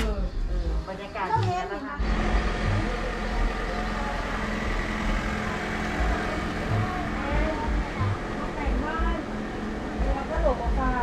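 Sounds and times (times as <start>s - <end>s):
faint voices: 0.0s - 11.0s
vehicle engine idling: 0.2s - 11.0s.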